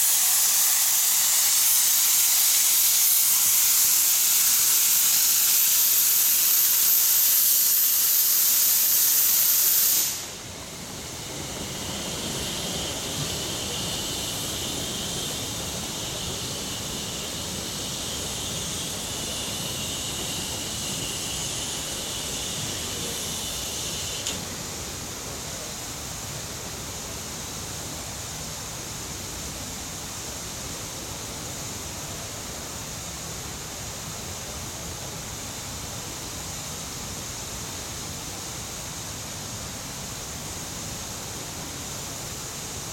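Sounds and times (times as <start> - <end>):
steam locomotive hissing: 0.0 - 42.9.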